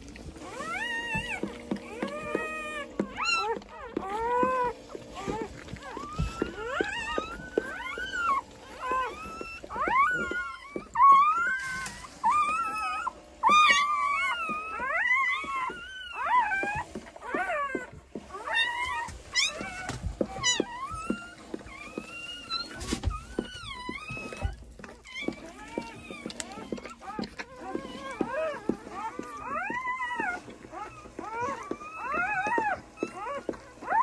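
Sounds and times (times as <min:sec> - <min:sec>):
puppies crying: 0:00.0 - 0:34.0.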